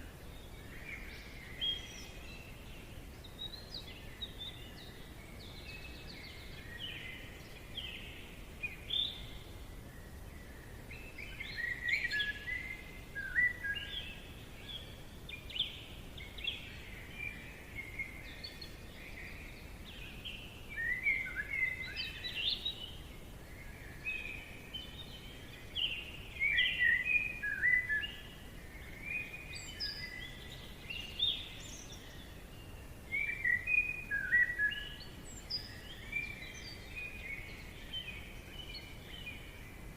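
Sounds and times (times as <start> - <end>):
birds chirping and trilling: 0.0 - 39.9
faint forest hiss: 0.0 - 39.9.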